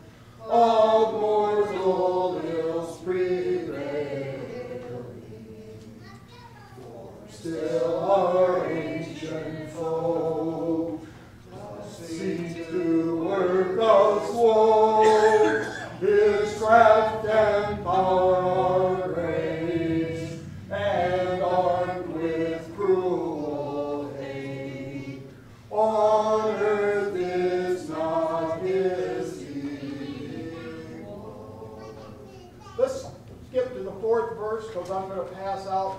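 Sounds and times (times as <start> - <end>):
congregation singing a hymn: 0.0 - 6.0, 6.8 - 32.4.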